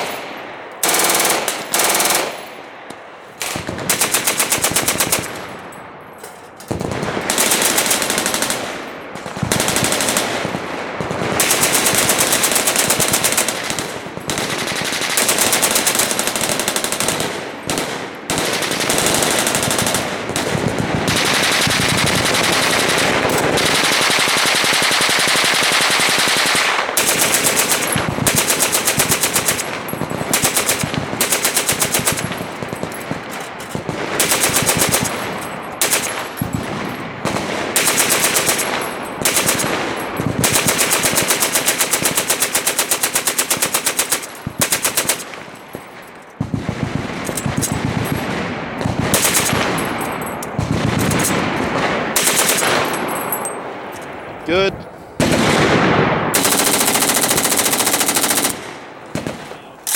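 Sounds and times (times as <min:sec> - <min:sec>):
machine guns firing bursts: 0:00.0 - 0:00.2, 0:00.8 - 0:05.8, 0:06.6 - 0:53.6, 0:55.2 - 0:59.9.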